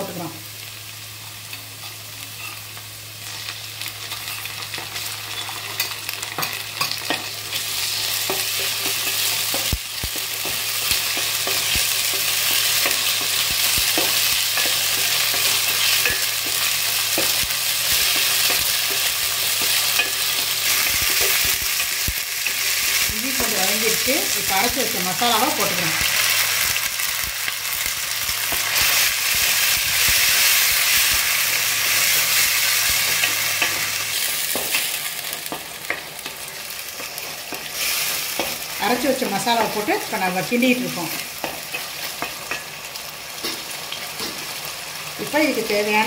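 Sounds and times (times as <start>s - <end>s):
onions sizzling in hot oil: 0.0s - 46.0s.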